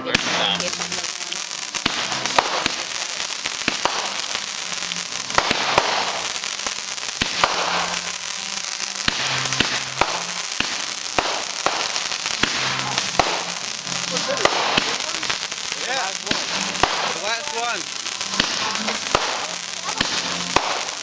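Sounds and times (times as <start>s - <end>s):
crackling hiss of sparks: 0.0s - 21.0s
fireworks bangs and pops: 0.0s - 21.0s.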